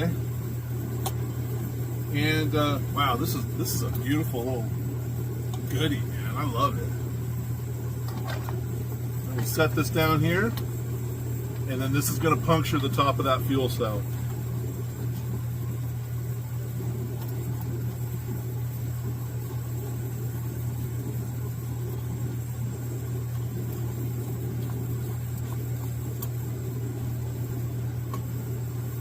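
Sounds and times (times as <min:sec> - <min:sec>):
gas stove roaring: 0:00.0 - 0:29.0.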